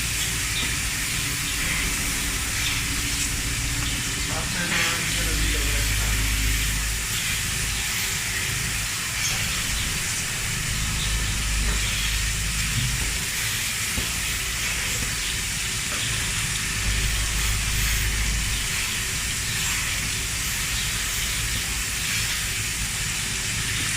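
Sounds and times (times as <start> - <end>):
low machinery hum: 0.0 - 23.9
machinery hissing: 0.0 - 23.9.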